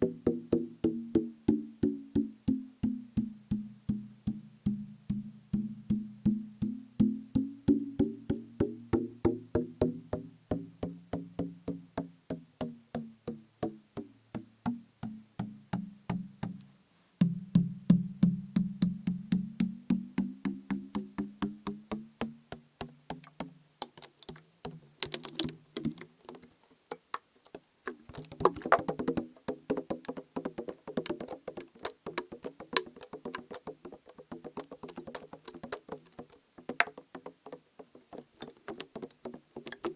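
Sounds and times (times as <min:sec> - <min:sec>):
fingers tapping plastic bottle: 0:00.0 - 0:39.9.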